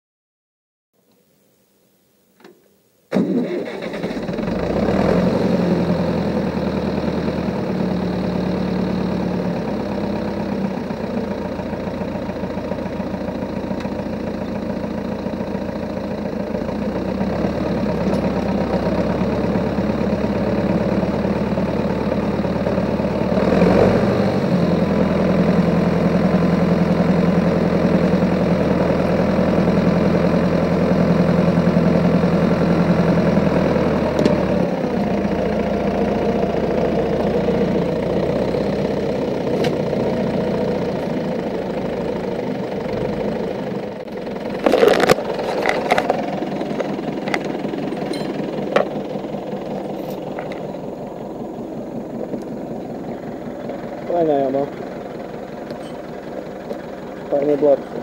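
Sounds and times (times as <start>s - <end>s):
tractor engine running: 3.1s - 58.0s.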